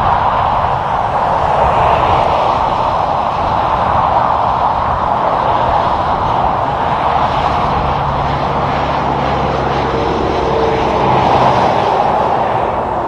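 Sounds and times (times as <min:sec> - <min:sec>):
truck diesel engine drone: 0:00.0 - 0:13.0
tyre roar of passing cars: 0:00.0 - 0:13.0.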